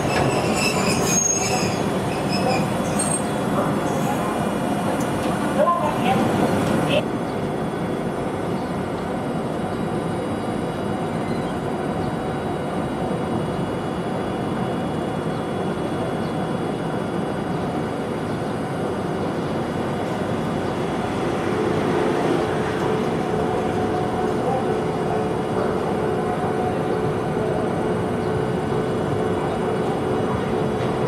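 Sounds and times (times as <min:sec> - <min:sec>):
tram two-tone hum: 0:00.0 - 0:31.0.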